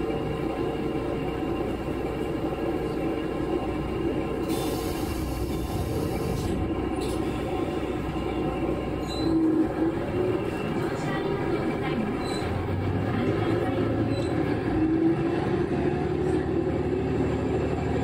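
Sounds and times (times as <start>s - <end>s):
diesel railcar engine hum: 0.0s - 18.0s
train wheels on rail: 2.0s - 18.0s.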